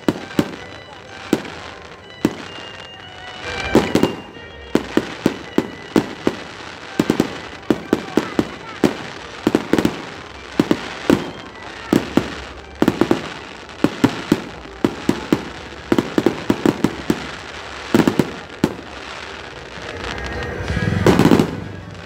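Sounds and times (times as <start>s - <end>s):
fireworks banging: 0.0s - 22.0s
fireworks crackling: 0.0s - 22.0s.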